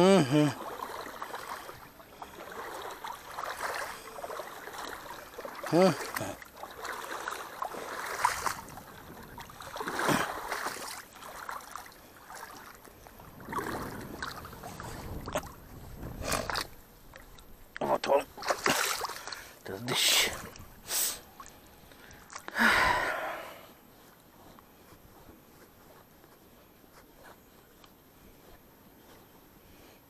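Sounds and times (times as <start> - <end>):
water sloshing and splashing: 0.0 - 26.2.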